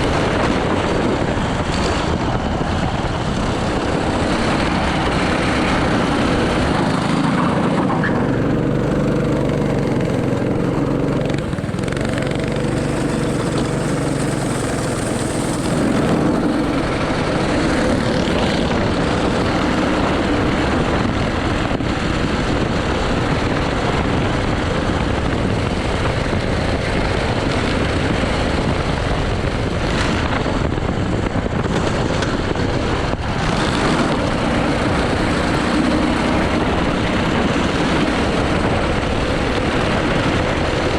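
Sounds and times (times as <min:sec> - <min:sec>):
kart engine running hard: 0:00.0 - 0:40.9
steady rush of noise: 0:00.0 - 0:40.9.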